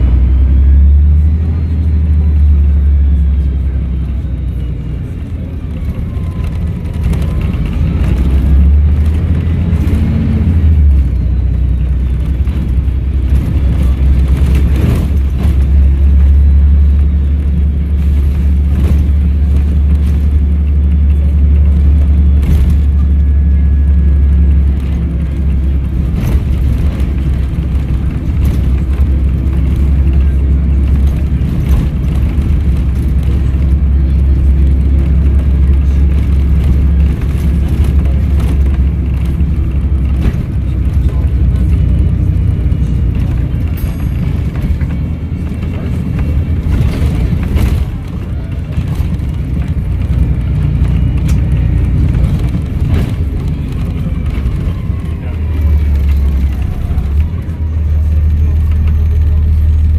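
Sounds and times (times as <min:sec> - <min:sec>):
bus diesel engine rumbling: 0:00.0 - 0:59.9.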